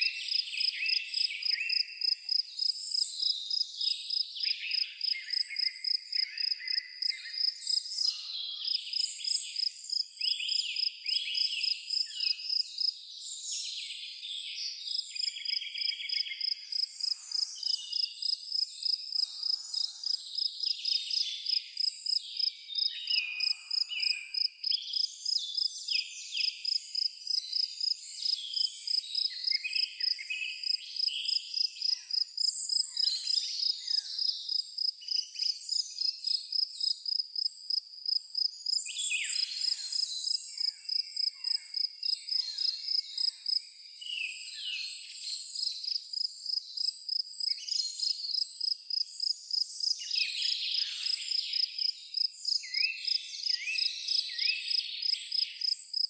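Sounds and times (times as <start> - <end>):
cricket chirping: 0.0 - 13.0, 14.9 - 25.7, 26.4 - 44.0, 45.6 - 56.0
birds singing: 0.0 - 37.0, 38.4 - 56.0.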